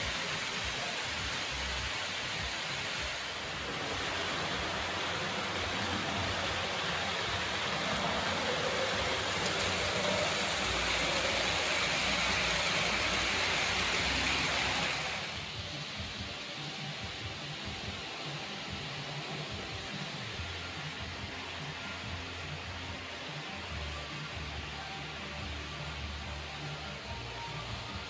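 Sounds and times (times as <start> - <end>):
model train wheels rolling on rails: 0.0 - 28.0.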